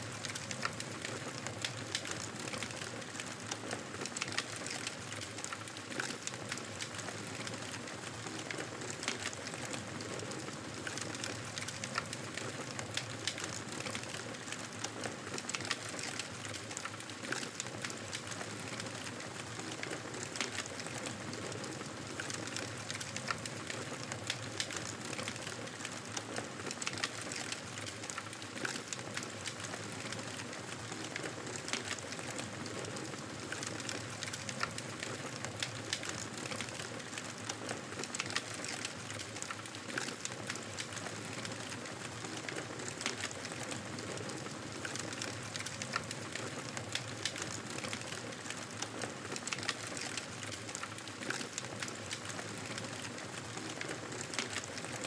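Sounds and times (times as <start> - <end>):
campfire crackling and popping: 0.2 - 55.0.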